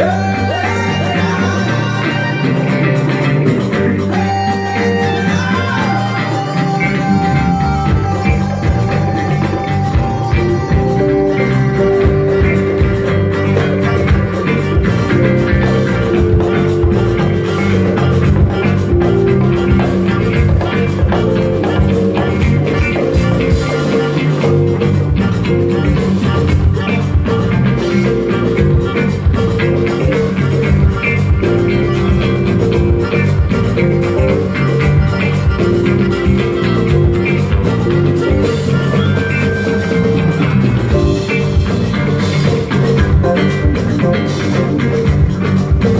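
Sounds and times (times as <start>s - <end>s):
bass line: 0.0s - 45.9s
drums and percussion: 0.0s - 45.9s
electric guitars: 0.0s - 45.9s.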